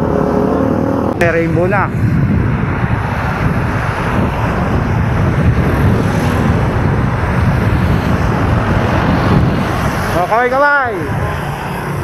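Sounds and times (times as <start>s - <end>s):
road traffic: 0.0s - 12.0s
wind rumble on microphone: 0.0s - 12.0s.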